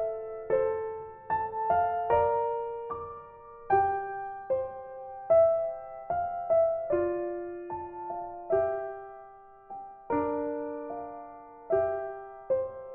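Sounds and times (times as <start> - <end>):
gentle piano melody: 0.0 - 12.9.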